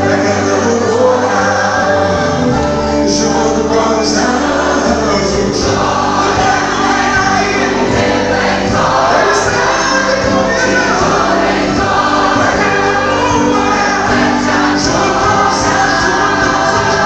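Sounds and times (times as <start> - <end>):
instrumental backing: 0.0 - 17.0
many voices singing together: 0.0 - 17.0
person singing on a microphone: 0.0 - 17.0.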